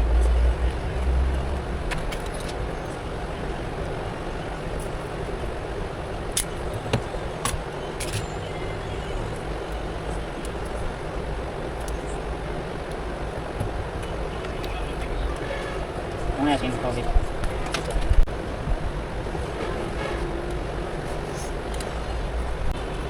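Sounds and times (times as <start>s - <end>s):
background rumble and hiss: 0.0s - 19.5s.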